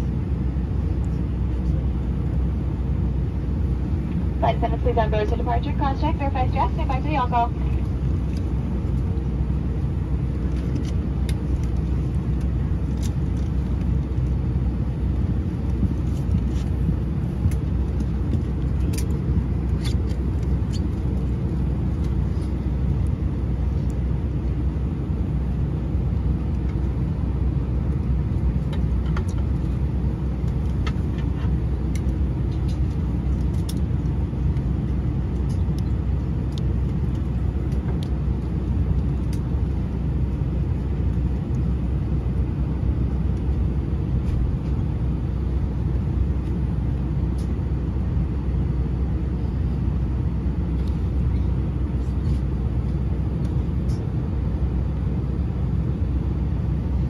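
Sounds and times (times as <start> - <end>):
aircraft cabin rumble and hum: 0.0 - 57.0.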